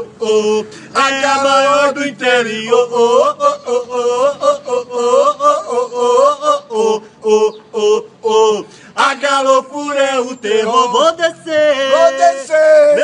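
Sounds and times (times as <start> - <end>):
men singing a football chant: 0.0 - 13.0.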